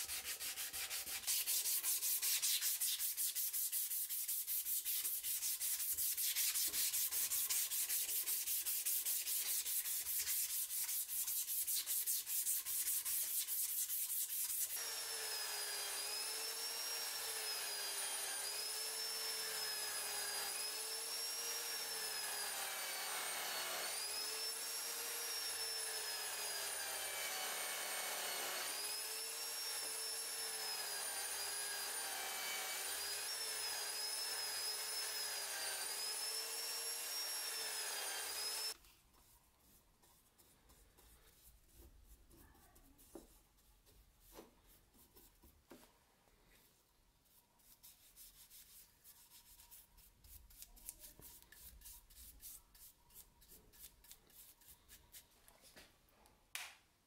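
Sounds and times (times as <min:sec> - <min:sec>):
sanding wood back and forth: 0:00.0 - 0:45.4, 0:47.6 - 0:55.2.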